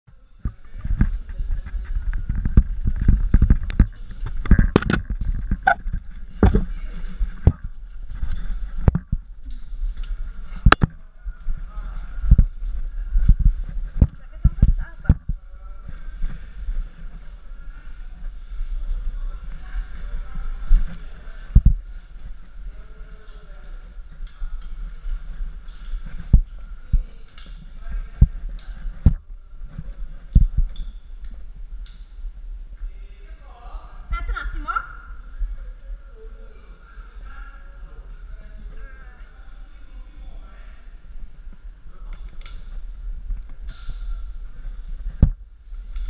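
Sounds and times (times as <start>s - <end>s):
microphone handling rumble: 0.2s - 33.1s, 40.6s - 46.0s.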